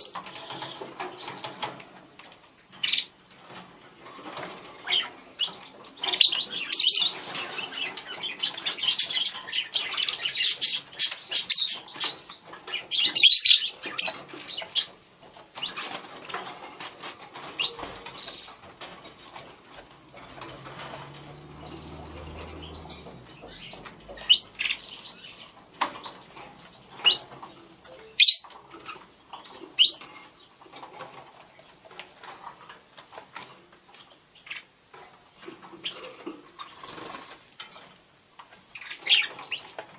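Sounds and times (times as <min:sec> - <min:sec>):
scratchy clicks and rustles: 0:00.0 - 0:39.9.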